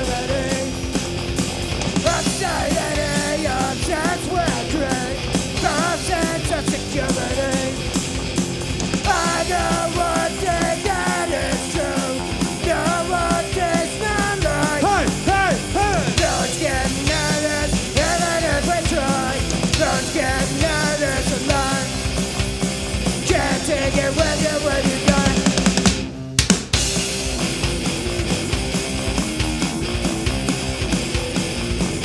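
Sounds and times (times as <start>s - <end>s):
bass guitar: 0.0s - 32.0s
distorted electric guitars: 0.0s - 32.0s
drums: 0.0s - 32.0s.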